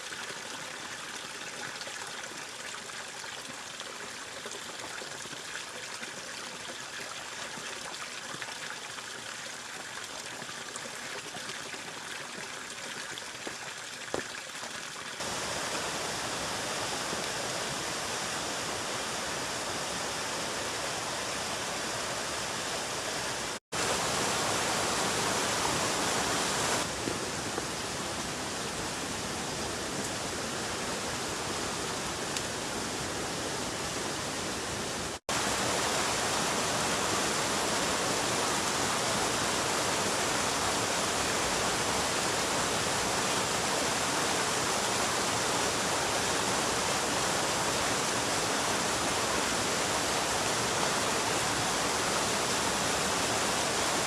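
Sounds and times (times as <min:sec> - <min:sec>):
water rushing: 0:00.0 - 0:54.0.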